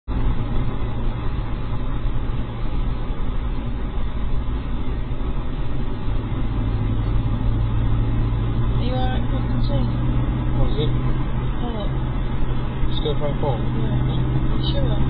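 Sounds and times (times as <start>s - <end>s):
car engine and tyre hum: 0.0s - 15.0s.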